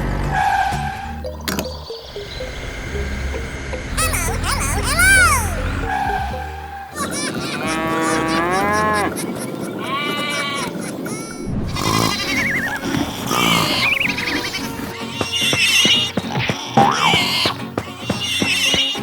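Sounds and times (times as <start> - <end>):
pitched animal-like calls: 2.0 - 19.0.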